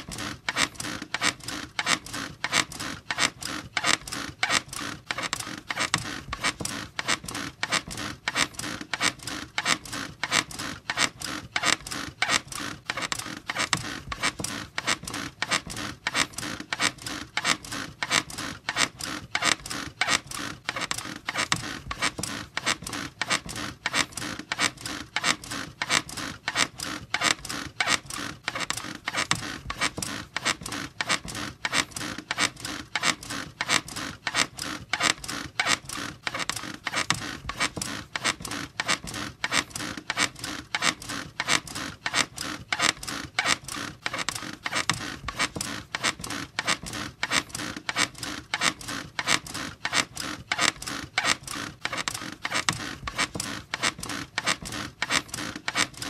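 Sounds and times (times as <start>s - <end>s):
bed creaking rhythmically: 0.0s - 56.0s.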